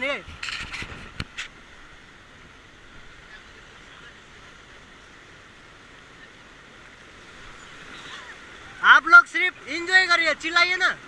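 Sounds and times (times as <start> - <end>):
fast-flowing river water: 0.0 - 11.0.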